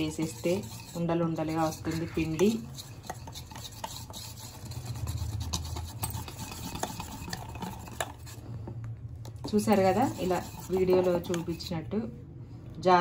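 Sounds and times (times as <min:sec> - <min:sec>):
whisk beating batter in bowl: 0:00.0 - 0:08.7, 0:09.4 - 0:12.0
low steady hum: 0:00.0 - 0:13.0.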